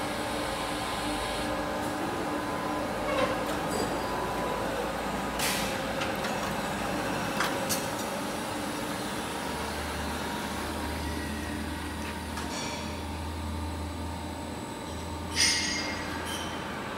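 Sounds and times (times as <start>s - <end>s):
machinery hum: 0.0s - 16.9s.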